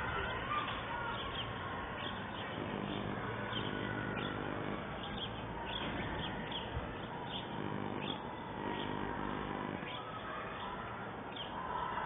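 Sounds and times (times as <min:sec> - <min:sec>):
steady hum and hiss: 0:00.0 - 0:12.0
bird chirps: 0:01.0 - 0:11.6.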